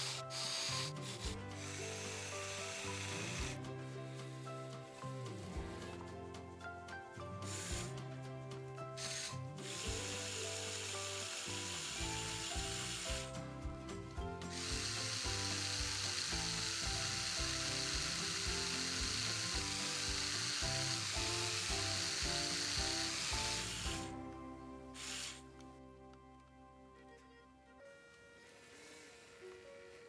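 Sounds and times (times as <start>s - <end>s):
electric toy motors and gearing: 0.0s - 6.1s, 7.4s - 24.2s, 25.0s - 25.6s, 28.0s - 30.0s
background music: 0.0s - 30.0s.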